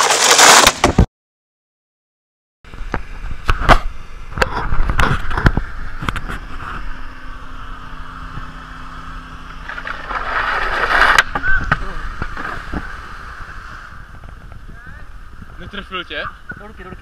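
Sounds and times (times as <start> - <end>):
small engine humming: 2.7 - 17.0.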